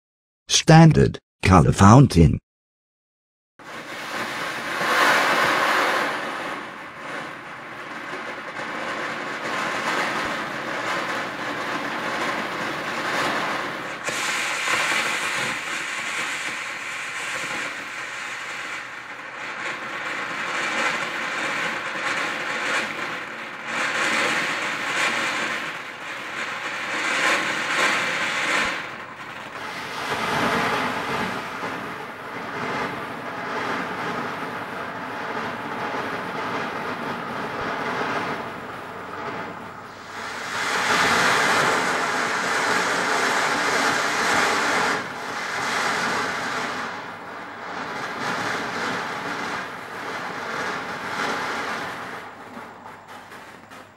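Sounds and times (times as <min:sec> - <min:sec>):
firework fountain hissing: 0:03.6 - 0:53.9.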